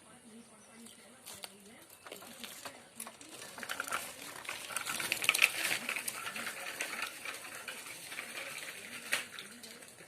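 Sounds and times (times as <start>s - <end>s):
food crackling in a pan: 1.2s - 10.0s.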